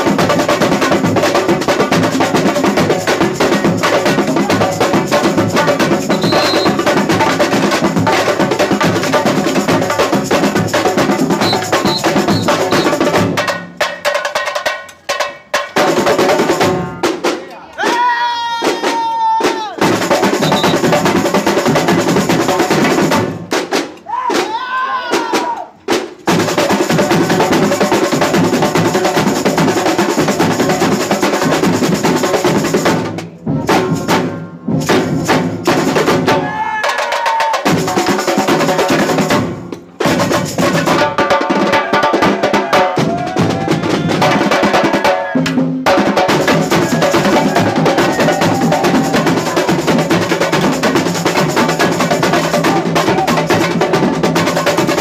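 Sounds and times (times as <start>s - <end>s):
drum corps playing fast rhythm: 0.0s - 55.0s.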